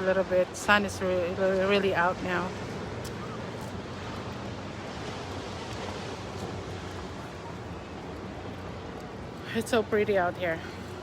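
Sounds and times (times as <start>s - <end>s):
ocean surf: 0.0s - 11.0s.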